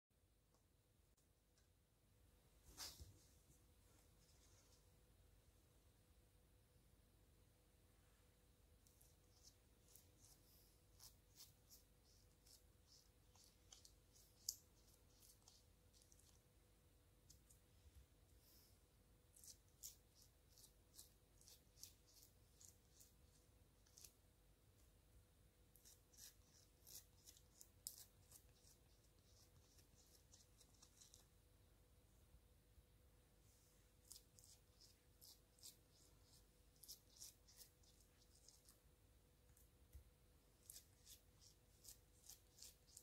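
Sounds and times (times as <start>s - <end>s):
faint steady hum: 0.2s - 43.0s.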